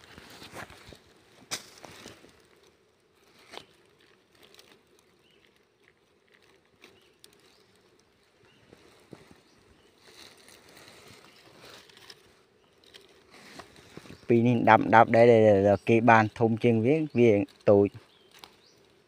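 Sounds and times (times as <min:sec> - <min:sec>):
rustling on dry leaf litter: 0:00.0 - 0:19.0.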